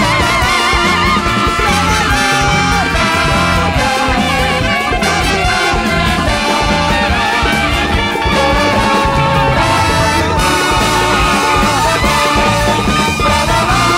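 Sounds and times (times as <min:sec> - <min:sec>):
big-band jazz: 0:00.0 - 0:13.9
drum and bass groove: 0:00.0 - 0:13.9
saxophones and trumpet: 0:00.0 - 0:13.9.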